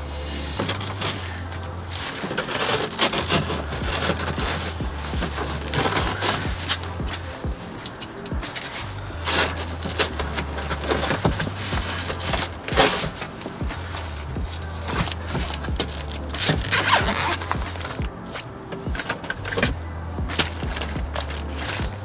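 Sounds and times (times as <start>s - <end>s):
fabric rustling and scraping: 0.0s - 22.0s
velcro straps rasping: 0.0s - 22.0s.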